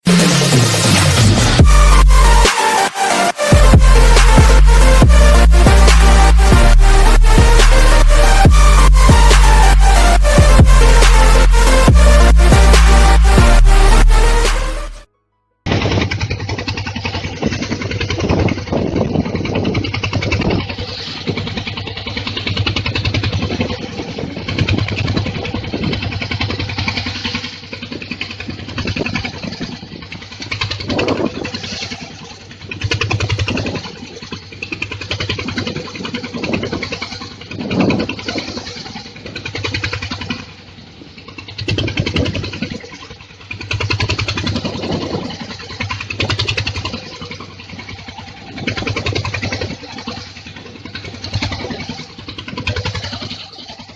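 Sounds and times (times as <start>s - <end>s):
boat engine humming: 0.0s - 53.9s.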